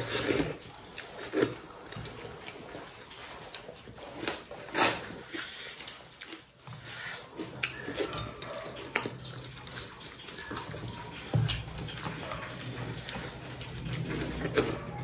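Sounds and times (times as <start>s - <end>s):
chewing and mouth smacking: 0.0s - 15.0s
hands mixing food on steel plates: 0.0s - 15.0s.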